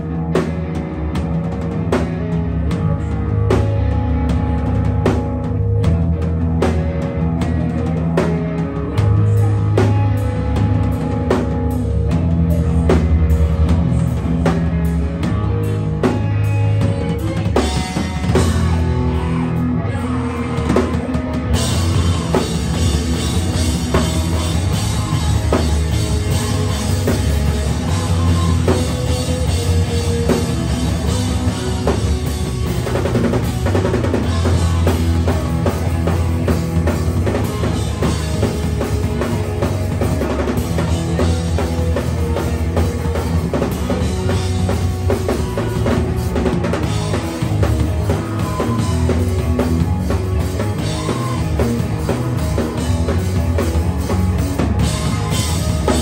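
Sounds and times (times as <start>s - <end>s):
loud hardcore band playing: 0.0s - 56.0s.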